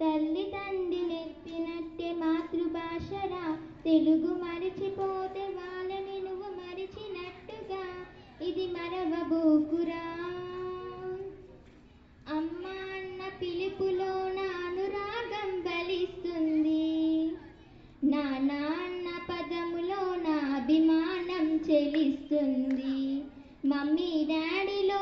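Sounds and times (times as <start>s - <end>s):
girl singing into microphone: 0.0s - 11.4s, 12.2s - 17.4s, 18.0s - 25.0s.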